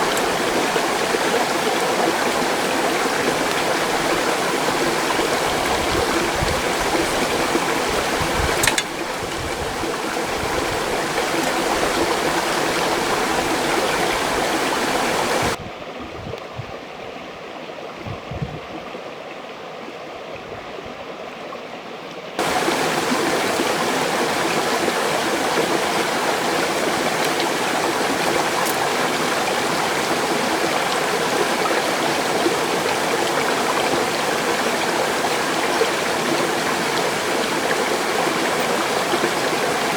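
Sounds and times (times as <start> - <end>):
mountain stream rushing: 0.0 - 15.6, 22.4 - 39.9.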